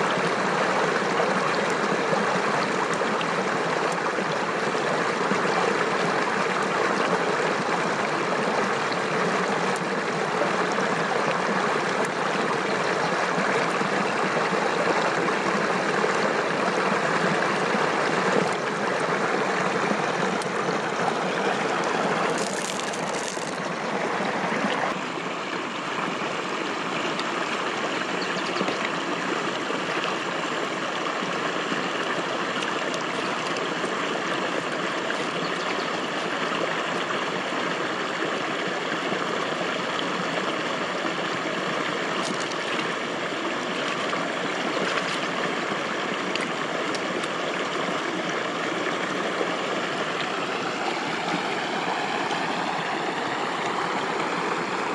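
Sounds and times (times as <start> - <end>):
flowing water rushing: 0.0 - 54.9.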